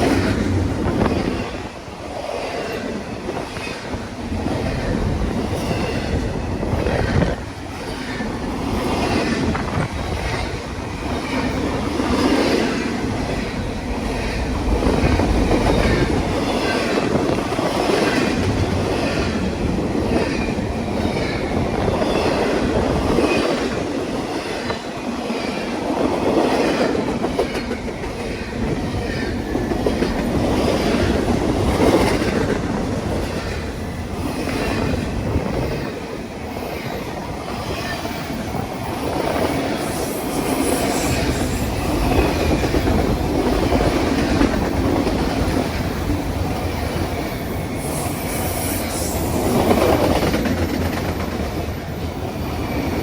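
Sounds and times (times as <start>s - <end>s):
railroad cars rumbling: 0.0s - 53.0s.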